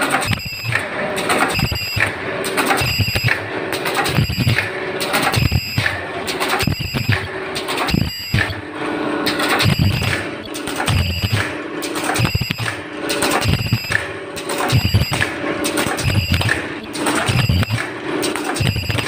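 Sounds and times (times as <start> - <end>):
machine running noise: 0.0 - 19.0.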